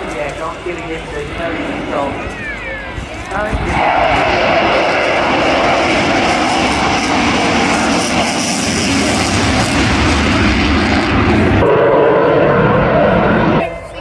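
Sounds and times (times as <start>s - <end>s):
jet engines running loud: 0.0s - 14.0s.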